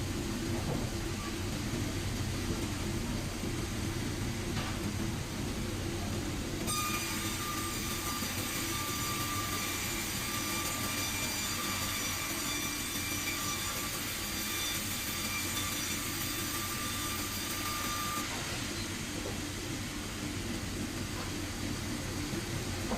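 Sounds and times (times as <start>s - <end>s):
sawmill machinery rumbling: 0.0s - 22.9s.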